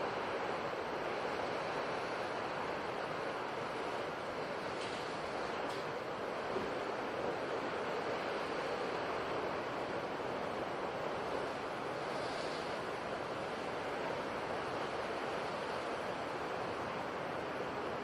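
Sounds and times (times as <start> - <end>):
waves washing: 0.0 - 18.0.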